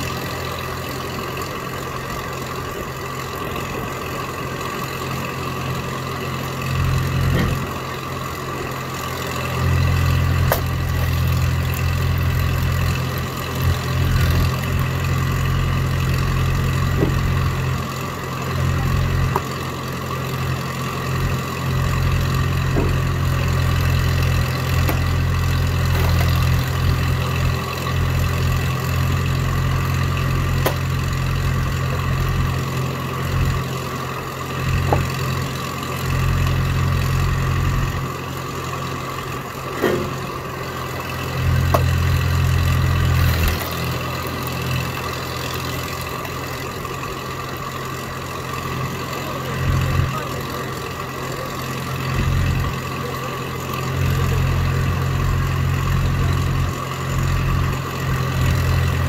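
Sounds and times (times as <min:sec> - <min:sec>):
log splitter engine running: 0:00.0 - 0:59.0.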